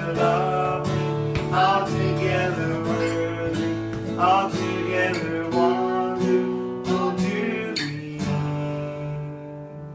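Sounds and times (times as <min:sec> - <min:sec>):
acoustic guitar strumming: 0:00.0 - 0:09.9.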